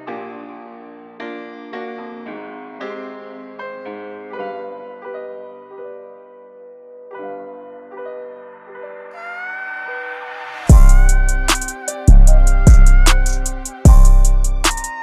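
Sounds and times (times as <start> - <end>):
slow electric piano melody: 0.0 - 9.1, 10.7 - 15.0.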